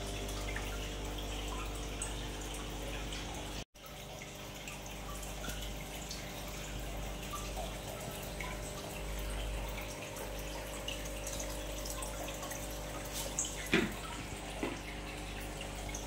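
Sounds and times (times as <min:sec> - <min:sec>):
aquarium water trickling and dripping: 0:00.0 - 0:16.0
pump humming: 0:00.0 - 0:16.0.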